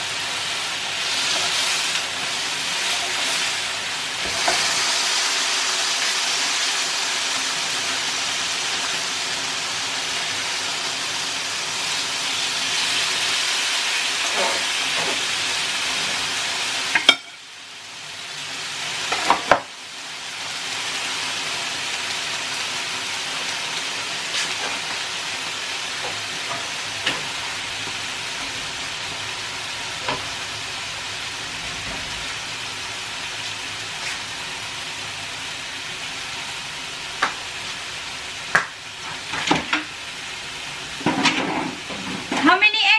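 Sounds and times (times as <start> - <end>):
steak sizzling on grill: 0.0 - 42.9.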